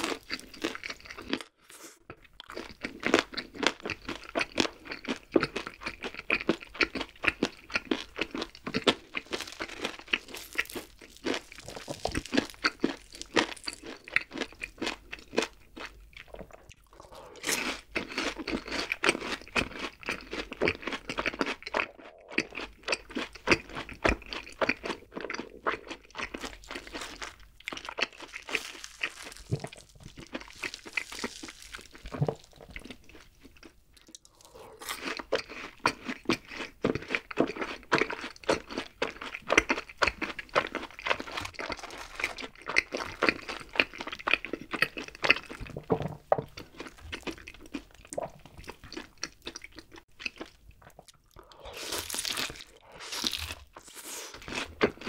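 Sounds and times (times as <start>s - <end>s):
chewing crispy fried food: 0.0s - 55.0s.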